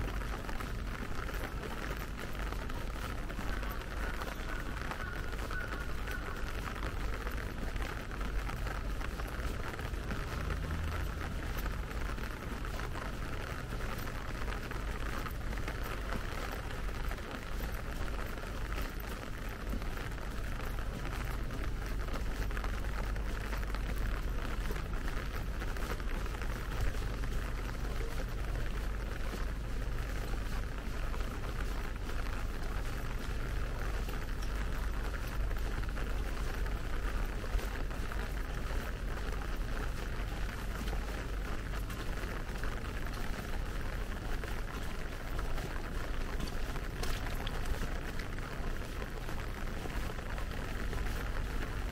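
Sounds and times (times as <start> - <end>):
light rain pattering on paving: 0.0 - 51.9.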